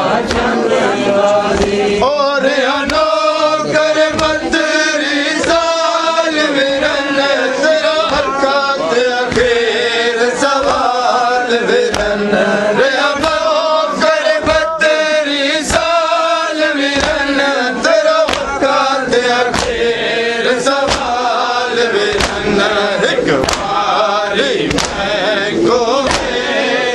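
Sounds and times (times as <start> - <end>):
men chanting a lament: 0.0 - 26.9
rhythmic chest-beating slaps: 0.0 - 26.9.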